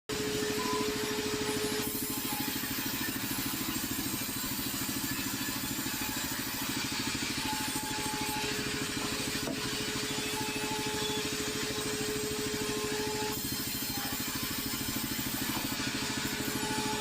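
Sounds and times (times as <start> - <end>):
cutting machine motor running: 0.1 - 17.0.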